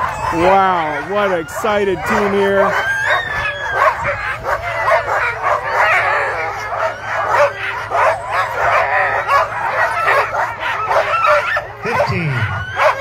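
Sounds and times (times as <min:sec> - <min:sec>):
sled dogs barking and yipping: 0:00.0 - 0:13.0.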